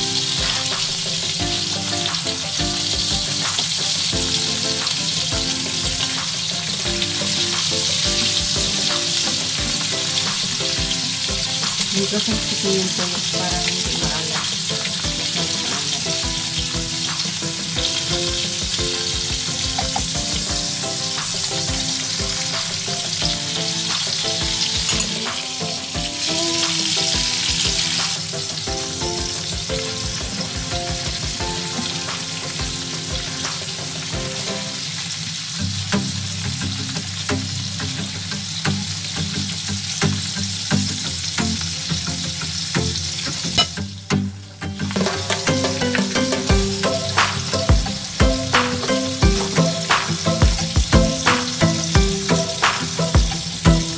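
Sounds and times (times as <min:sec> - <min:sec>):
fish sizzling in oil: 0:00.0 - 0:44.0, 0:44.8 - 0:53.9.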